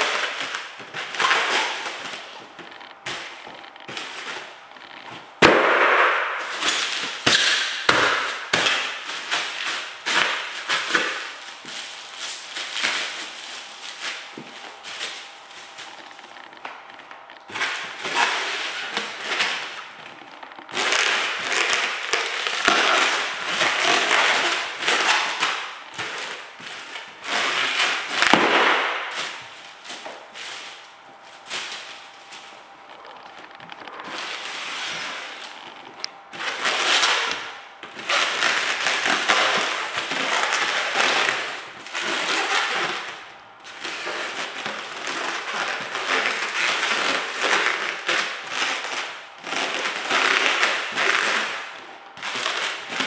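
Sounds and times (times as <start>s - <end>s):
foil balloons crinkling: 0.0s - 53.0s.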